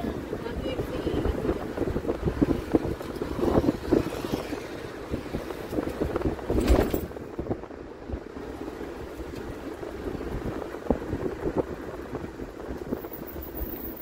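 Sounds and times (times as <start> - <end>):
moving vehicle noise: 0.0 - 14.0
wind buffeting microphone: 0.0 - 14.0.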